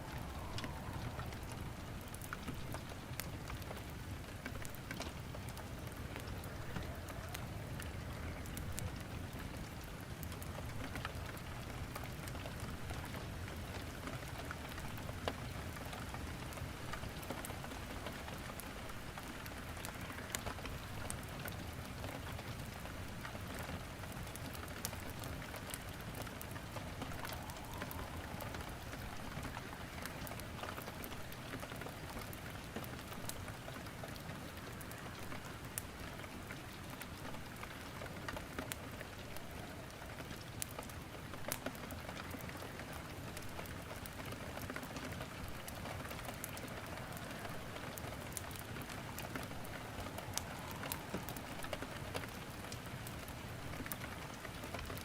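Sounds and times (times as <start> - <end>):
firewood crackling and popping: 0.0 - 55.0
steady rain hissing: 0.0 - 55.0.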